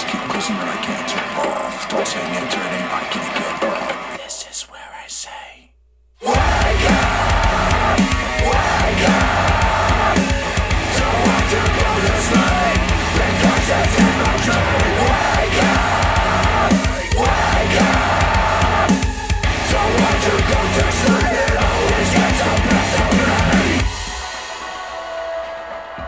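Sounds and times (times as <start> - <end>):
heavy rock music: 0.0 - 4.2, 6.2 - 26.0.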